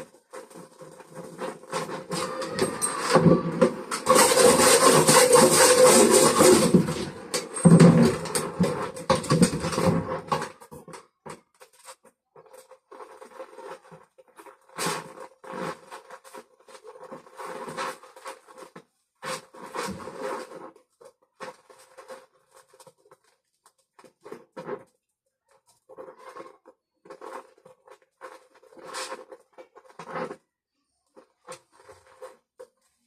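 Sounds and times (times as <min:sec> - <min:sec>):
scraping and rubbing: 0:00.0 - 0:33.0.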